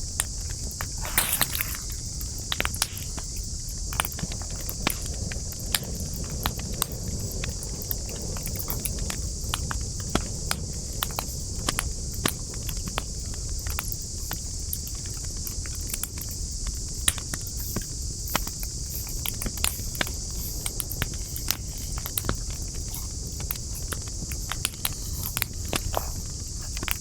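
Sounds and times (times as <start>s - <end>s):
campfire crackling and popping: 0.2s - 27.0s.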